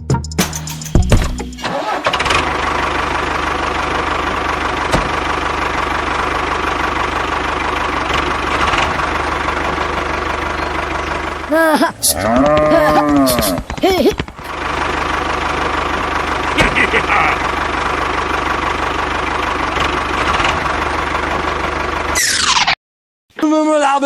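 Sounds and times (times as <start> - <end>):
tractor engine idling: 0.5 - 22.2.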